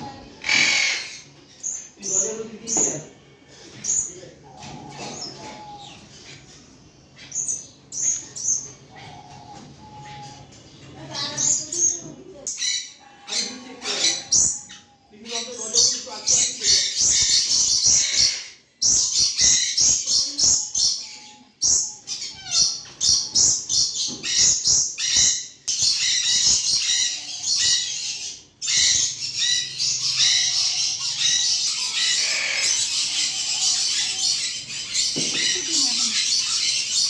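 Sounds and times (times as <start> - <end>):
caged birds chirping: 0.0 - 37.0.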